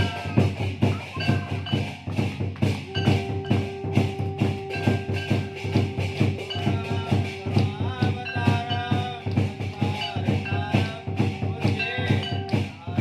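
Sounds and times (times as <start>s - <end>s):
held melodic tones: 0.0s - 13.0s
quick percussion beat: 0.0s - 13.0s.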